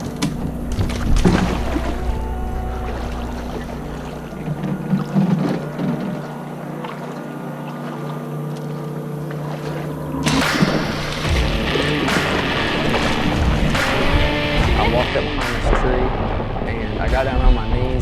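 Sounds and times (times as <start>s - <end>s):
water sloshing and splashing: 0.0s - 16.8s
boat motor humming: 0.0s - 18.0s.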